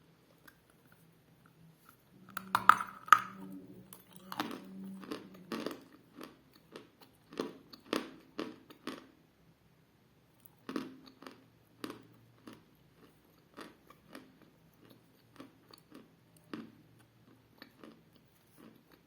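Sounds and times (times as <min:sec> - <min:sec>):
chewing crunches: 0:01.9 - 0:09.1, 0:10.4 - 0:19.0.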